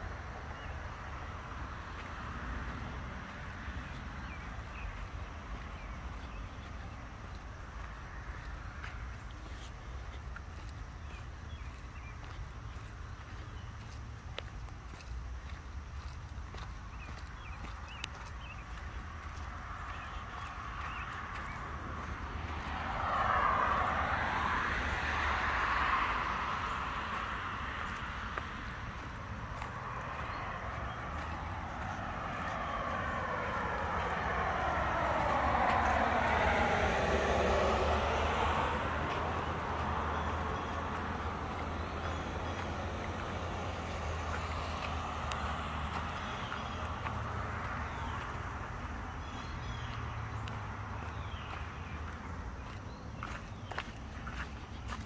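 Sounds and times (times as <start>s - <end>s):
road traffic passing: 0.0s - 55.0s
vehicle engines rumbling: 0.0s - 55.0s.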